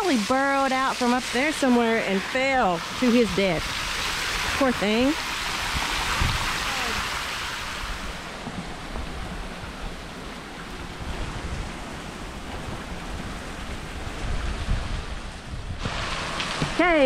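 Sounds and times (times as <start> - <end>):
distant waterfalls: 0.0 - 17.0
flowing river water: 0.0 - 17.0
water splashing: 0.0 - 17.0
wind rumbling on microphone: 0.0 - 17.0.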